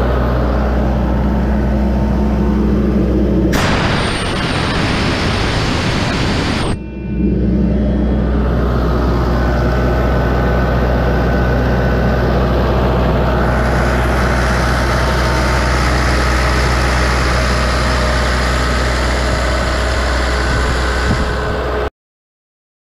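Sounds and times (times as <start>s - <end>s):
diesel engine drone: 0.0s - 21.9s.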